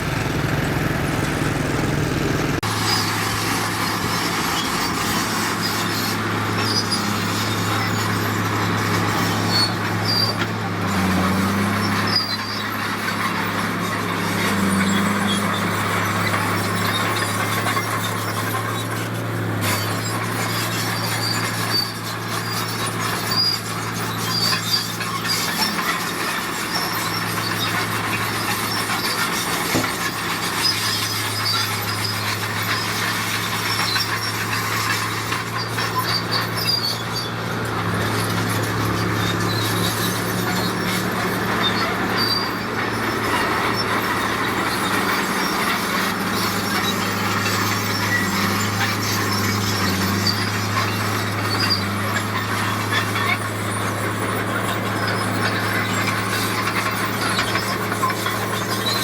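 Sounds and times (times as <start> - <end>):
bulldozer diesel engine: 0.0 - 59.0
crawler tracks squealing: 0.0 - 59.0.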